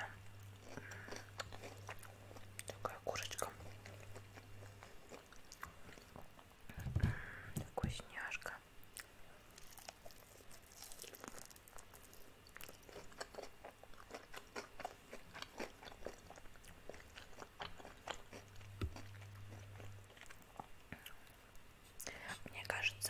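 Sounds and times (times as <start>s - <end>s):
crunching and chewing fried chicken: 0.0s - 6.5s, 8.8s - 21.4s.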